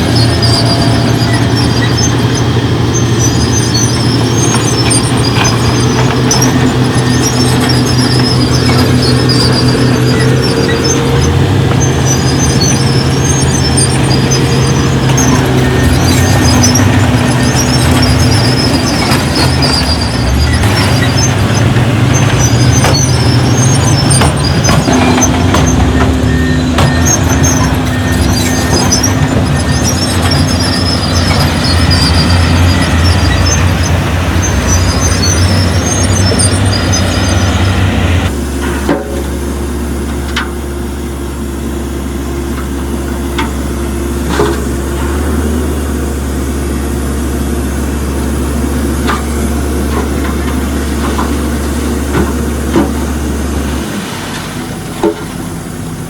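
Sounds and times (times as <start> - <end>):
high squeaks and clanks: 0.0 - 39.1, 48.2 - 55.4
heavy machinery diesel engines: 0.0 - 56.0.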